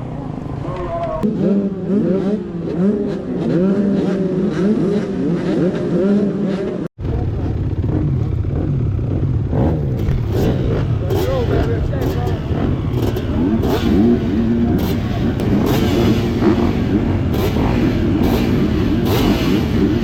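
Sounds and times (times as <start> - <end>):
motorbike engine revving hard: 1.2 - 20.0.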